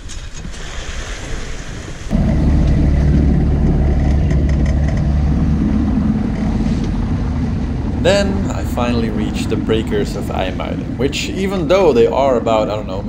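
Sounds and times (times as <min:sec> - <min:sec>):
wind and sea rushing: 0:00.0 - 0:13.0
wind buffeting microphone: 0:00.0 - 0:13.0
low rumble with steady hum: 0:02.1 - 0:13.0.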